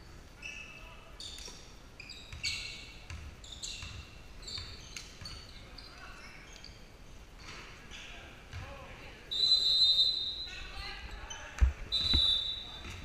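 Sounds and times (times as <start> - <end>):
sneakers squeaking on court: 0.4 - 8.8, 10.6 - 13.0.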